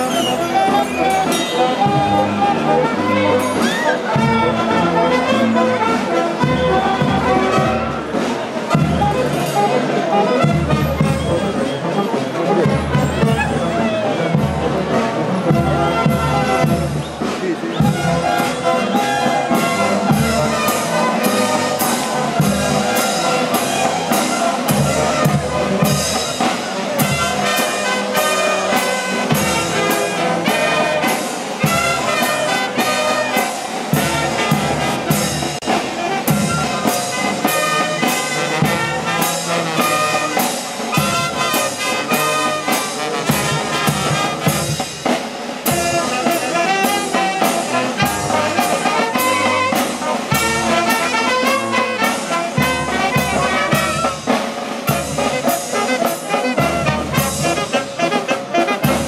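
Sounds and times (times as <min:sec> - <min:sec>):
bass drum and snare drums: 0:00.0 - 0:59.0
trumpets and trombones melody: 0:00.0 - 0:59.0.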